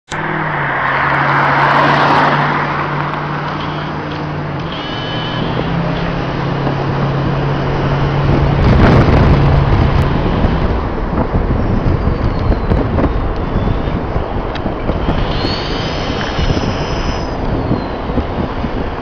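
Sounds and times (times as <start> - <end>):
diesel pickup truck driving: 0.1 - 19.0
wind on microphone: 1.0 - 19.0.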